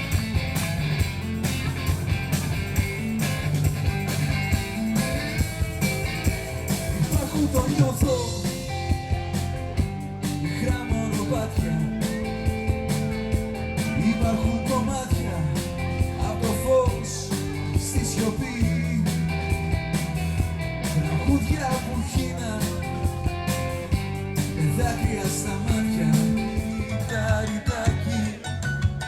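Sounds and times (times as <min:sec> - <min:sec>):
drum beat: 0:00.0 - 0:28.0
guitar: 0:00.0 - 0:29.0
rock band music: 0:00.0 - 0:29.0.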